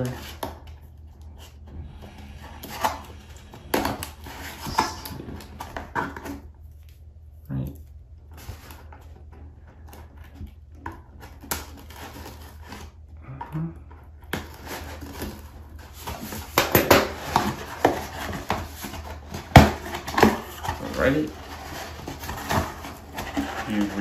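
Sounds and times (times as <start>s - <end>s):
hands handling cardboard: 0.0s - 7.1s, 8.2s - 24.0s.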